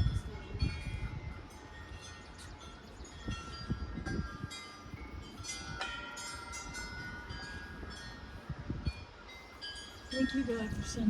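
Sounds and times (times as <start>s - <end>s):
wind chimes ringing: 0.0s - 11.0s
wind rumble on microphone: 0.0s - 11.0s.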